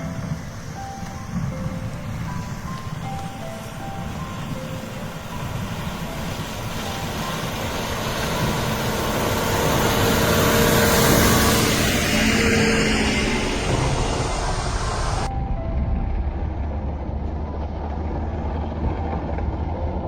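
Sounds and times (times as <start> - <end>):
diesel engine rumbling: 0.0 - 20.0
rushing noise: 0.0 - 20.0.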